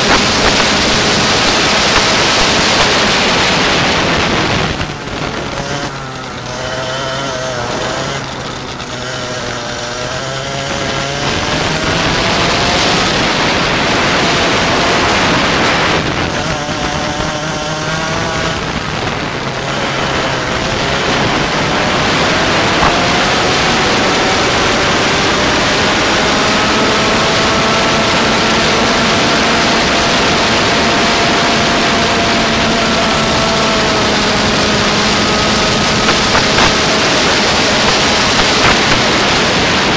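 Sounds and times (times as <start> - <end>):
go-kart engine running: 0.0 - 39.9
loud rushing noise: 0.0 - 39.9.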